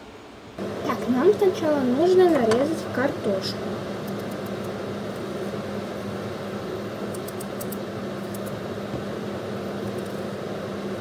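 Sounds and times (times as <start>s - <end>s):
steady hum with hiss: 0.0s - 11.0s.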